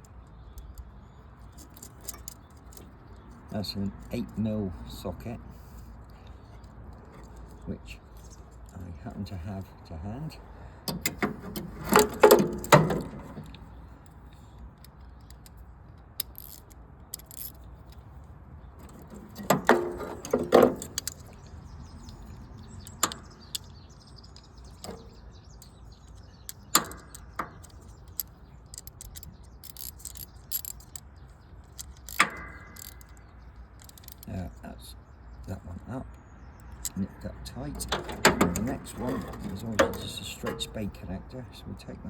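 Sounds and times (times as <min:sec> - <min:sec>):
metallic clicks and rattles: 0:00.0 - 0:04.4, 0:06.0 - 0:08.8, 0:10.9 - 0:34.4, 0:36.1 - 0:40.9.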